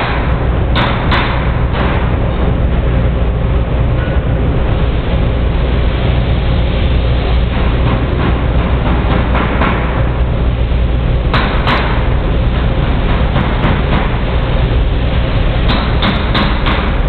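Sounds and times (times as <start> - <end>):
belt conveyor running: 0.0 - 17.0.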